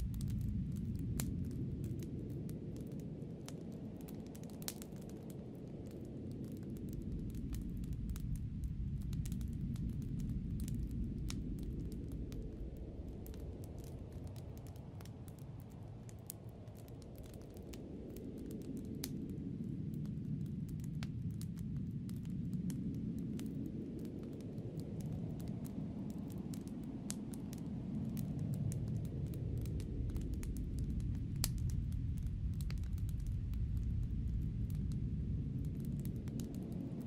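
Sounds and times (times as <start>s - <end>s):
sharp crackles and ticks: 0.0s - 37.0s
snowstorm wind gusts: 0.0s - 37.0s.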